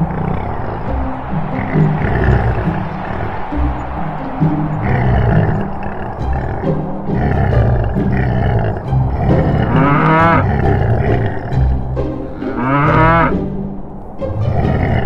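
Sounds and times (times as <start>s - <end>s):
cow mooing: 0.0s - 13.4s, 14.4s - 15.0s
background music with low beat: 0.0s - 15.0s.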